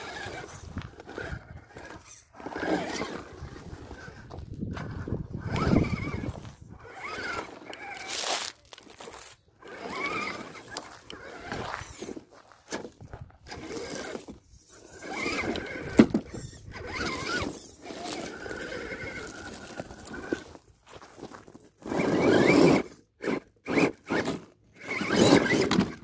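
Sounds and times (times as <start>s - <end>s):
rc car motor whining: 0.0s - 26.0s.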